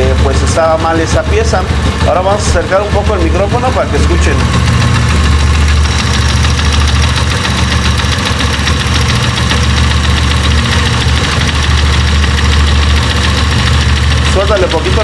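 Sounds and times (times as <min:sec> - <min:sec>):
deep rattling knock: 0:00.0 - 0:15.0
motorcycle engine idling: 0:00.0 - 0:15.0.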